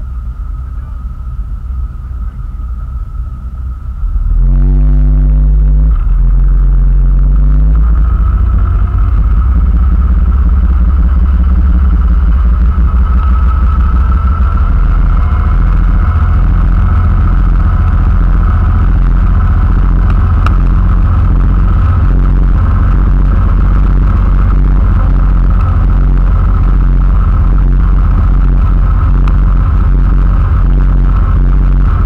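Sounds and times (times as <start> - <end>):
motorboat engine revving: 0.0 - 32.0.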